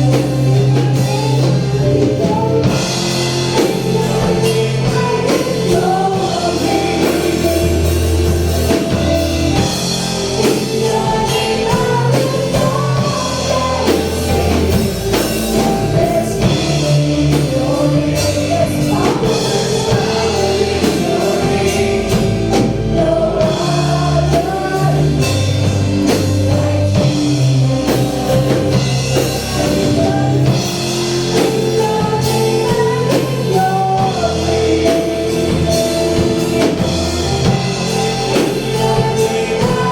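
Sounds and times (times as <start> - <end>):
gospel band playing: 0.0 - 39.9
voices singing melody: 0.0 - 39.9.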